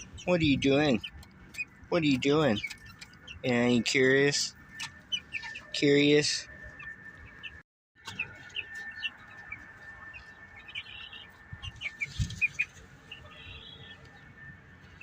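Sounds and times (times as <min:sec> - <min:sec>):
young chickens peeping: 0:00.0 - 0:15.0.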